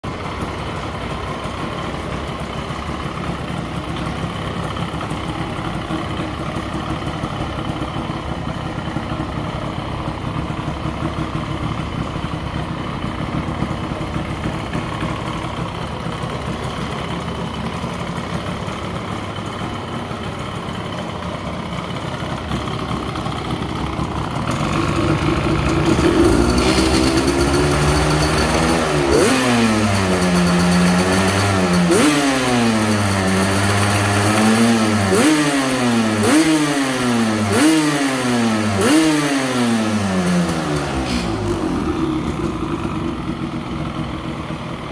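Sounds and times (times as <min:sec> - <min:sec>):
two-stroke engine idling and revving: 0:00.0 - 0:44.9.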